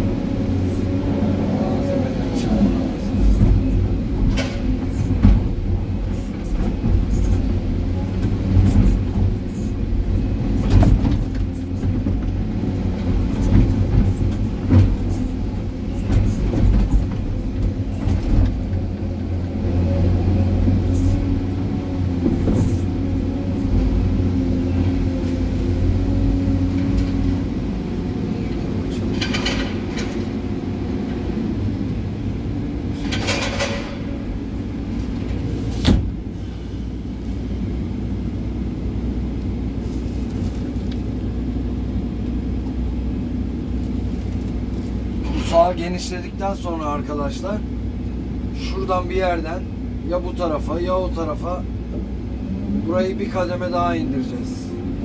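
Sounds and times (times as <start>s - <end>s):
excavator diesel engine and hydraulics: 0.0s - 55.0s.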